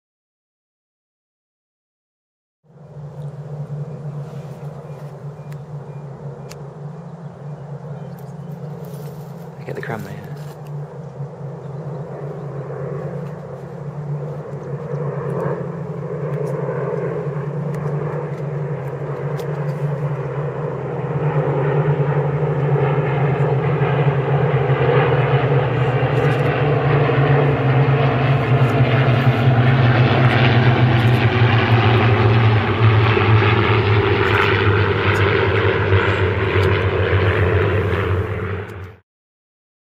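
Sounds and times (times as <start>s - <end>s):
aircraft piston engines droning: 2.7s - 39.0s.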